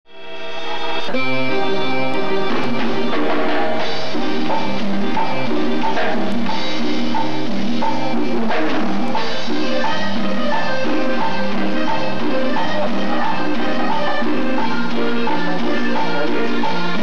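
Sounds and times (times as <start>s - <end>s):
drum kit with cymbals: 0.1s - 17.0s
sustained instrument chords: 0.2s - 17.0s.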